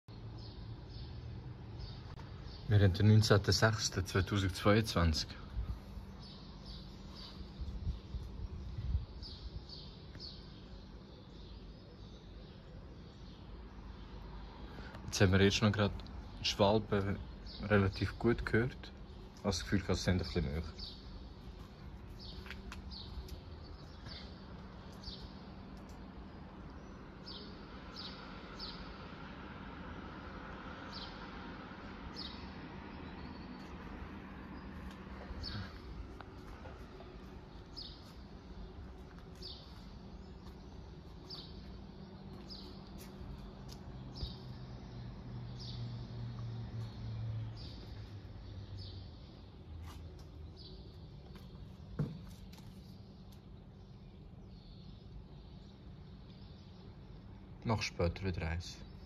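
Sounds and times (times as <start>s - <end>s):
low city hum: 0.1s - 59.0s
swallows calling: 1.8s - 29.1s, 32.1s - 59.0s.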